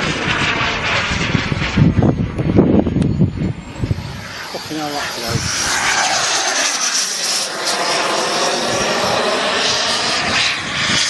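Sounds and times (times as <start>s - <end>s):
model jet engine roar and whine: 0.0s - 11.0s.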